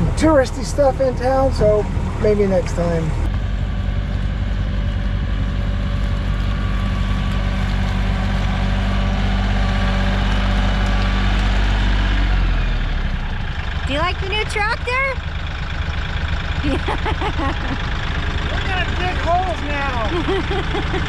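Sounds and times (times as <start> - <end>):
diesel tractor engine running: 0.0 - 21.0
tyres on gravel: 3.4 - 21.0.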